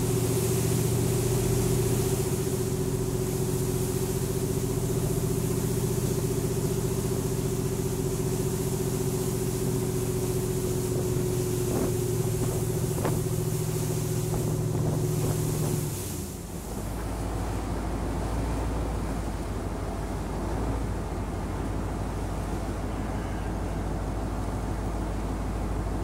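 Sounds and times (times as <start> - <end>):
boat engine droning: 0.0 - 26.0
wind and water hiss: 0.0 - 26.0.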